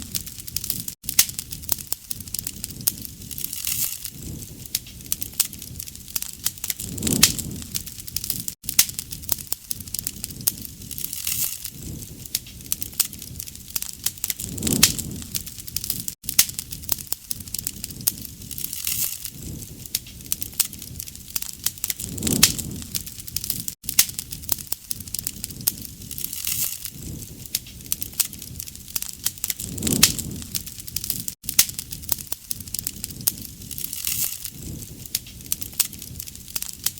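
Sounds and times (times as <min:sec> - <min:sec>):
campfire crackling and popping: 0:00.0 - 0:36.9
soft rush of flame: 0:00.0 - 0:36.9.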